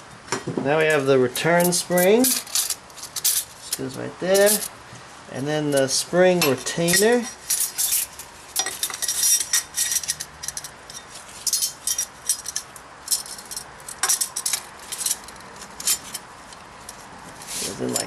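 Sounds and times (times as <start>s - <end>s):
metal parts clinking and rattling: 0.9s - 4.7s, 6.4s - 17.0s.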